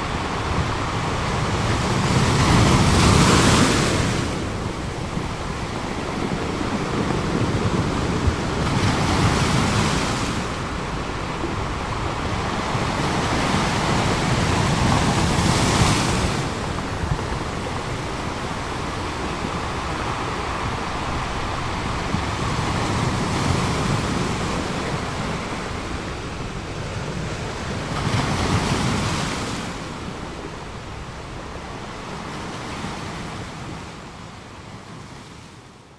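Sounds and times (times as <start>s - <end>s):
sea surf breaking on rocks: 0.0s - 34.0s.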